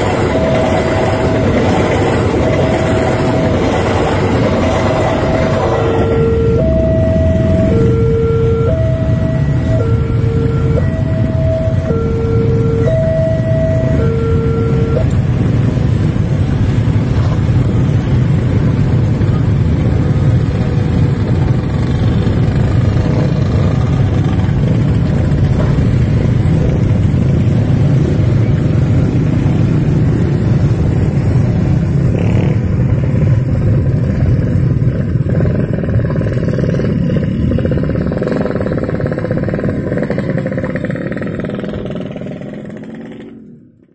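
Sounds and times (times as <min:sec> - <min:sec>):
motorcycles and scooters passing: 0:00.0 - 0:43.9.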